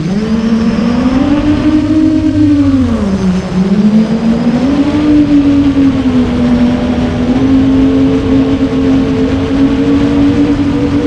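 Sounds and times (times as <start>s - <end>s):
drone motors buzzing: 0.0s - 11.0s.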